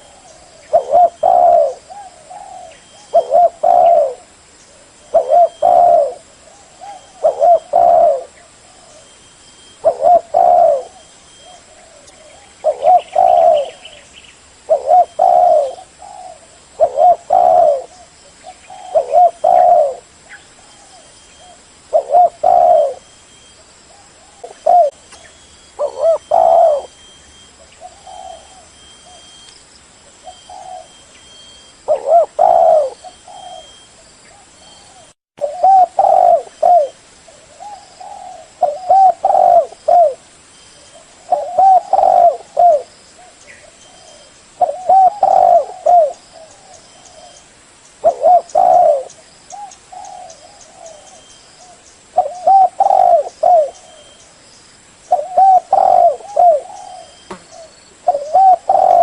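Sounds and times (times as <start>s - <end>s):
dove cooing: 0.0s - 14.0s, 14.6s - 25.2s, 25.8s - 29.4s, 30.2s - 40.2s, 40.8s - 47.4s, 48.0s - 54.3s, 55.1s - 59.0s.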